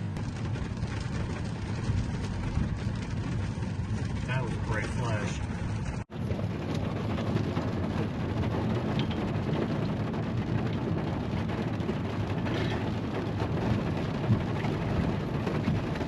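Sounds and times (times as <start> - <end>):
light rain: 0.0 - 16.0
thunder rumbling: 0.0 - 16.0.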